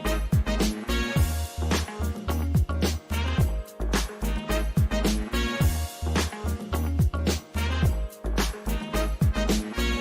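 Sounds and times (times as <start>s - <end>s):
funk music with bass line: 0.0s - 10.0s.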